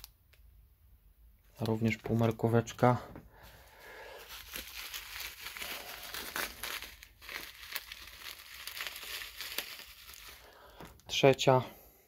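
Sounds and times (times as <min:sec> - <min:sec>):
bubble wrap crinkling: 0:00.0 - 0:00.4, 0:01.6 - 0:11.4.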